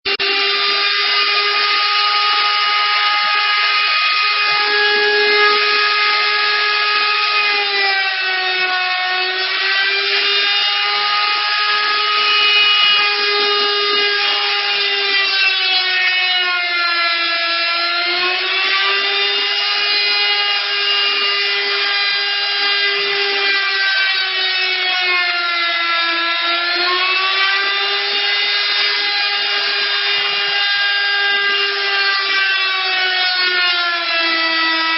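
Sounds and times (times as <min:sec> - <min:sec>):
cutting machine motor whining: 0:00.1 - 0:34.9.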